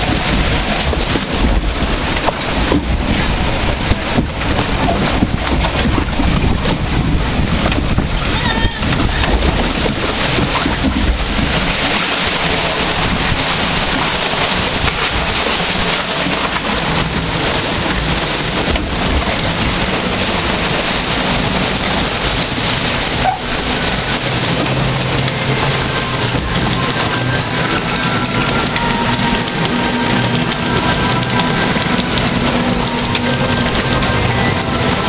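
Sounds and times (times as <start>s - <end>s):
flowing and splashing water: 0.0s - 35.0s.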